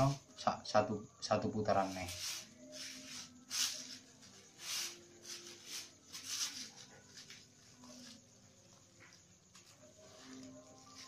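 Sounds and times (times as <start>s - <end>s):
plastic strands rustling and crinkling: 1.8s - 11.0s.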